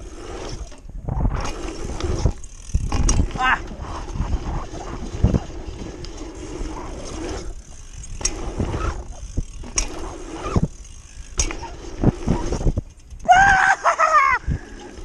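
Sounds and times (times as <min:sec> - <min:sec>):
bike tyres rumbling over dirt: 0:00.0 - 0:15.0
wind rush on microphone: 0:00.4 - 0:10.8, 0:11.4 - 0:13.6, 0:14.3 - 0:15.0.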